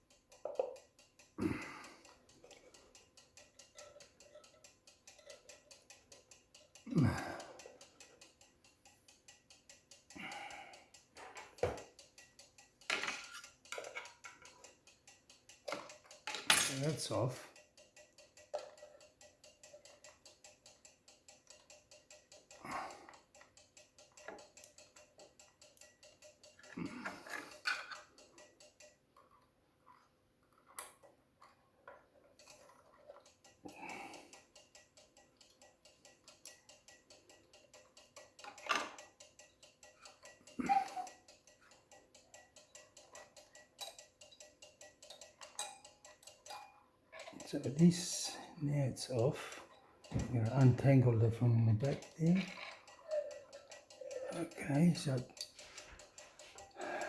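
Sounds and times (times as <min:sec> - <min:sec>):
clock ticking quickly: 0:00.0 - 0:57.0.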